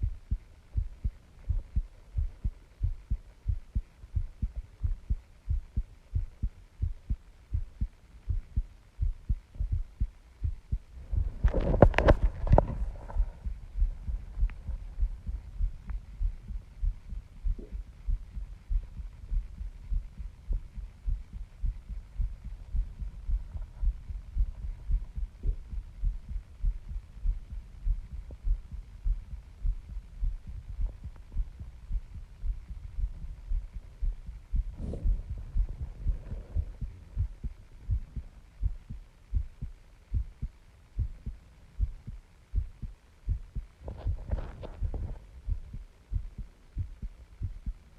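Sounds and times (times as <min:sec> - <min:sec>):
heartbeat thumps: 0:00.0 - 0:47.9.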